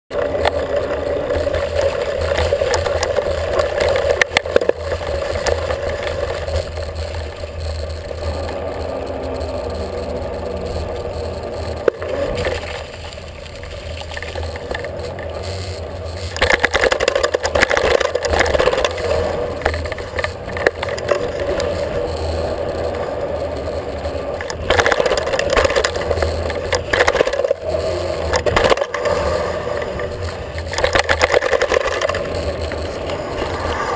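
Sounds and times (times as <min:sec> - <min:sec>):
rattling and scraping: 0:00.1 - 0:33.9
wheels rolling over concrete: 0:00.1 - 0:33.9.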